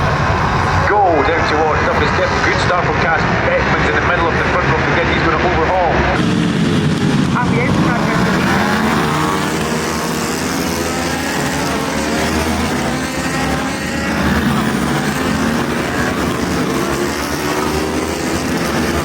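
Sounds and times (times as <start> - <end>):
racing motorbikes revving: 0.0 - 19.0.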